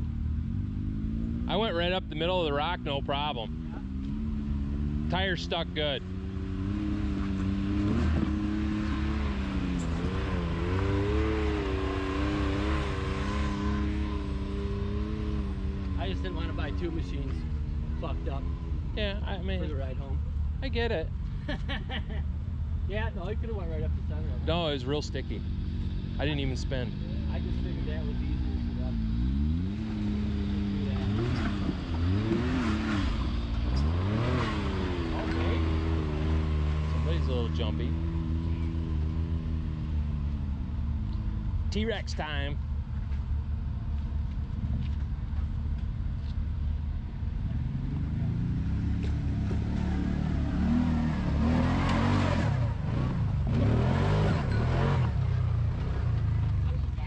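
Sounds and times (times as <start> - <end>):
utility vehicle engine under throttle: 0.0 - 21.5, 22.6 - 57.0.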